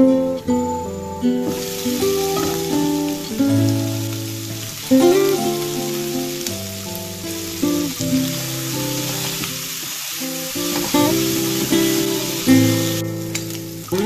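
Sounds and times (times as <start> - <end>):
acoustic guitar music: 0.0 - 14.0
liver sizzling in a pan: 1.4 - 14.0.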